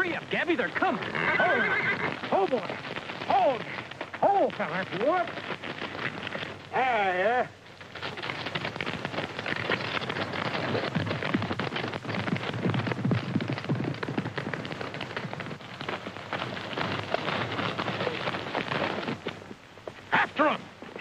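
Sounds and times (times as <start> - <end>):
horses galloping hoofbeats: 0.0 - 21.0.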